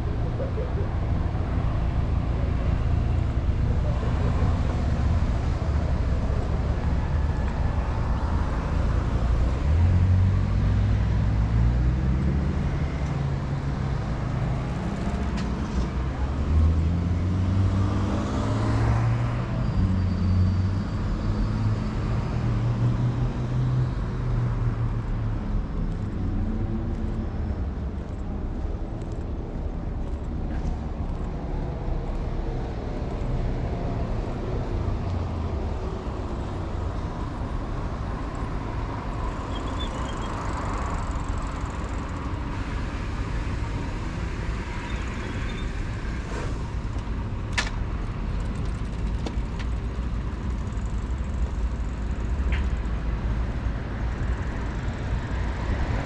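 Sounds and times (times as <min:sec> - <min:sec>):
low traffic rumble: 0:00.0 - 0:56.0
vehicles passing: 0:00.0 - 0:56.0.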